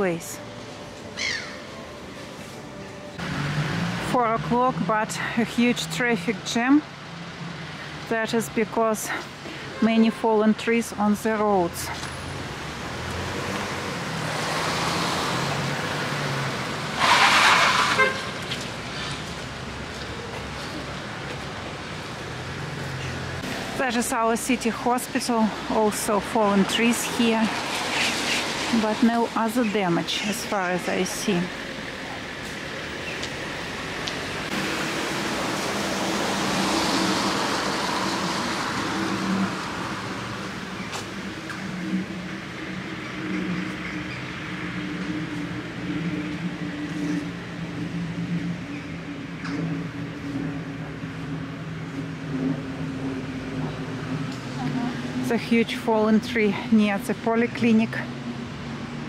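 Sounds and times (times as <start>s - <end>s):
road traffic: 0.0s - 59.0s
car passing: 1.2s - 9.8s, 11.1s - 59.0s.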